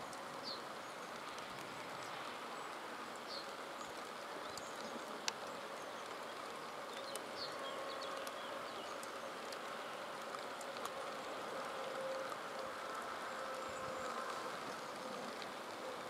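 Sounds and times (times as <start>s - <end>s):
light rain hissing: 0.0s - 16.0s.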